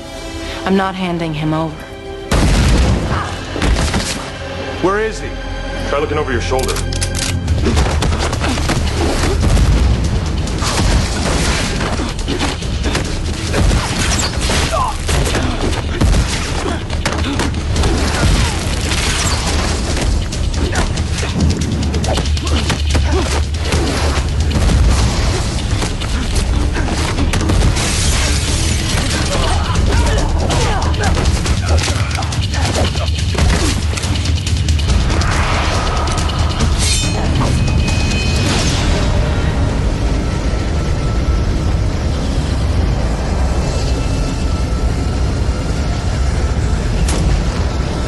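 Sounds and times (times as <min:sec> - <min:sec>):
loud action music: 0:02.1 - 0:43.1.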